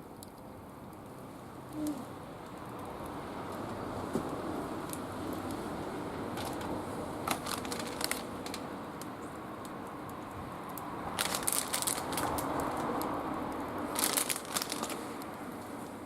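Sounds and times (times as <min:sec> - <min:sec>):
fire popping: 0:00.0 - 0:16.0
wood fire crackling: 0:00.0 - 0:16.0.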